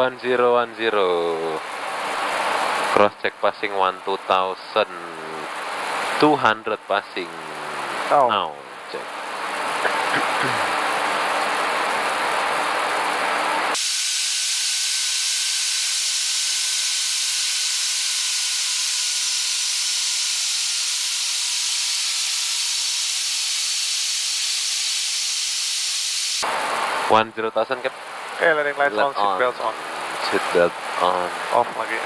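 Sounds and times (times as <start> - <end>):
steady hiss of noise: 0.0 - 32.0.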